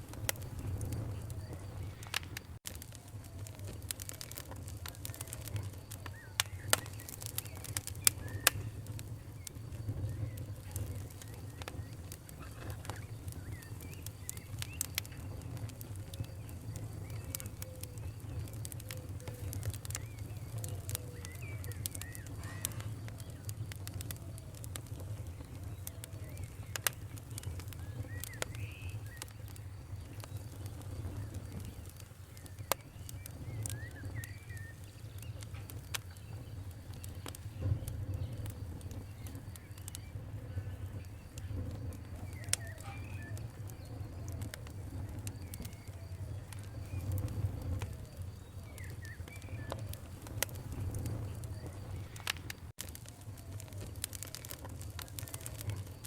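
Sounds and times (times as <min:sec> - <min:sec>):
campfire crackling and popping: 0:00.0 - 0:56.0
birds chirping: 0:00.1 - 0:56.0.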